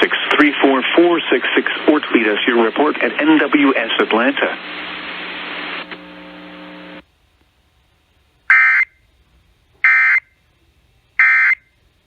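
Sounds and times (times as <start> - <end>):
steady hum and hiss: 0.0 - 12.0.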